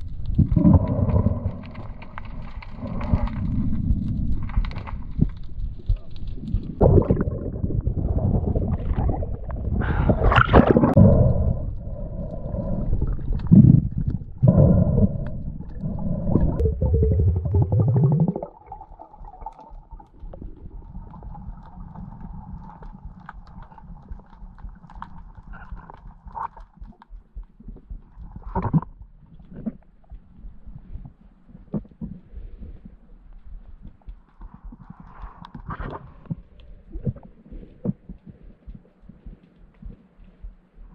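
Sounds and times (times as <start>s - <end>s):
faint underwater hum: 0.0s - 40.9s
water sloshing and gurgling: 0.0s - 40.9s.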